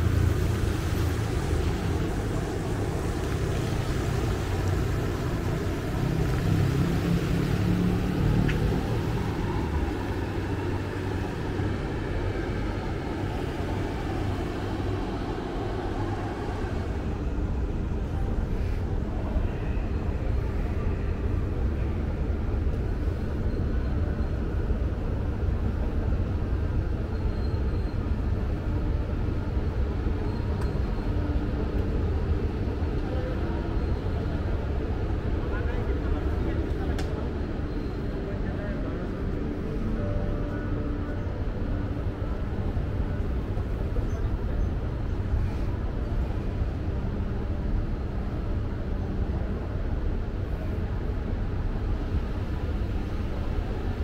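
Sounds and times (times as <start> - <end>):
low rumble of ambience: 0.0 - 54.0.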